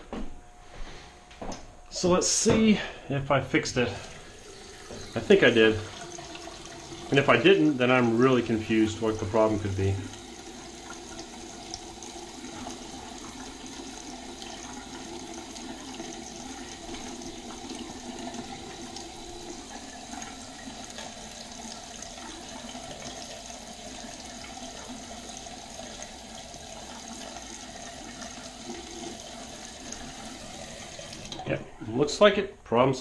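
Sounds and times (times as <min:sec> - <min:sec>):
faucet running into sink: 0:03.6 - 0:31.6.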